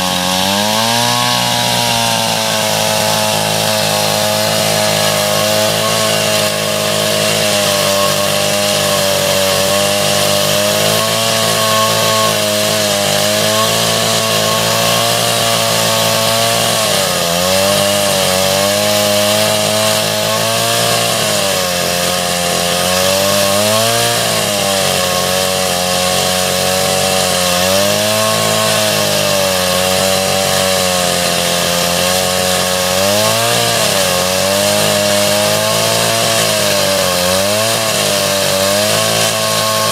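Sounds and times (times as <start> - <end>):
chainsaw ripping log: 0.0 - 39.9.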